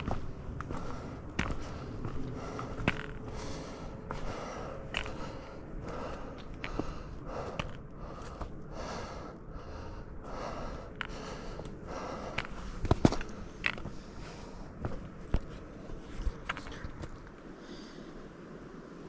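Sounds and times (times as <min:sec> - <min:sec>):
heavy breathing while walking: 0:00.0 - 0:18.2.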